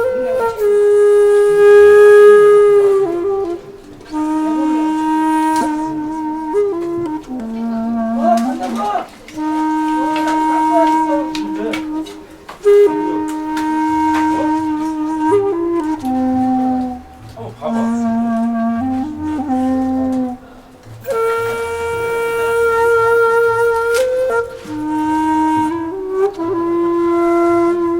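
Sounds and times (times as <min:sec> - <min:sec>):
slow flute melody: 0:00.0 - 0:27.9.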